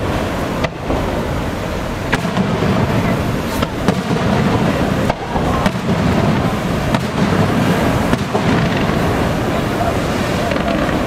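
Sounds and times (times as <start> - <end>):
fireworks bursting: 0.0 - 11.0
surf breaking: 0.0 - 11.0.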